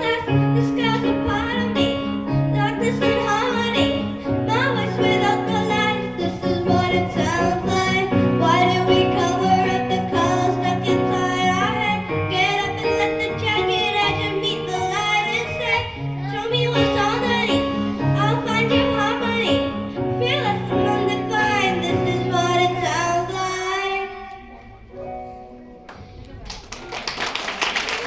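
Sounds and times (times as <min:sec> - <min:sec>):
woman singing: 0:00.0 - 0:24.8
pop backing track chords: 0:00.0 - 0:26.1.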